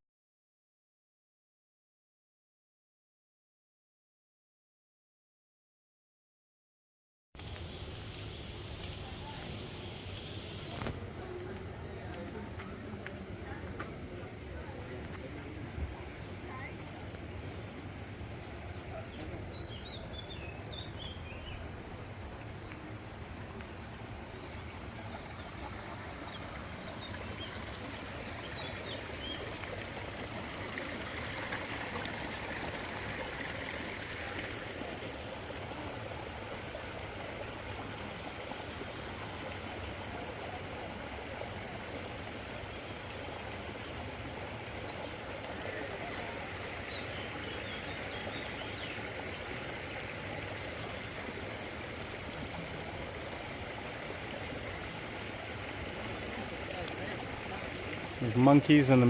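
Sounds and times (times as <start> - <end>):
running water rushing: 7.4 - 59.0.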